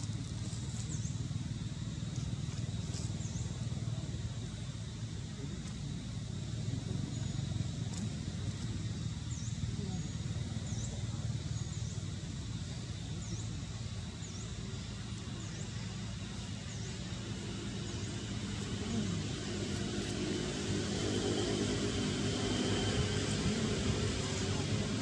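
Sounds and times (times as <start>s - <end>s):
low hum of steady tones: 0.0s - 25.0s.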